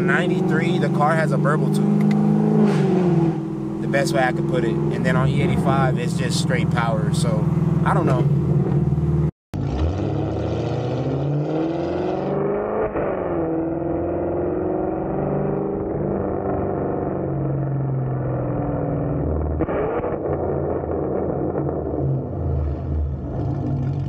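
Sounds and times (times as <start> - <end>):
car exhaust revving: 0.0 - 24.0.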